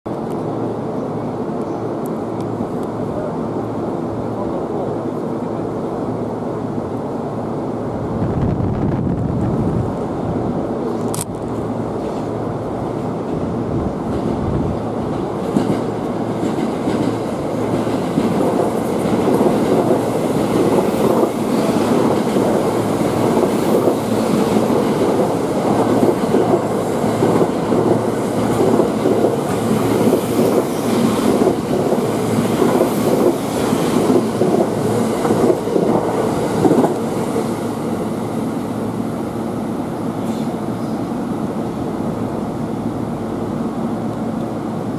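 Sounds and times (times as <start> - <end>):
train passing at speed: 0.1 - 44.9.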